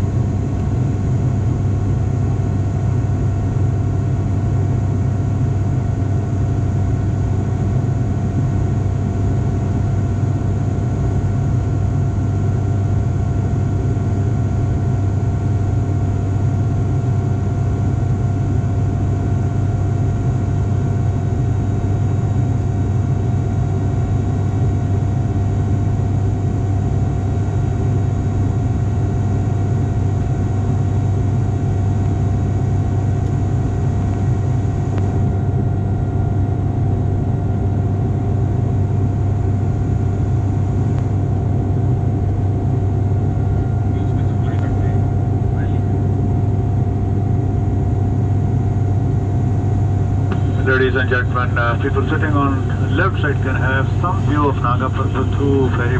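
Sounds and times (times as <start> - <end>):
turboprop cabin drone: 0.0 - 55.9.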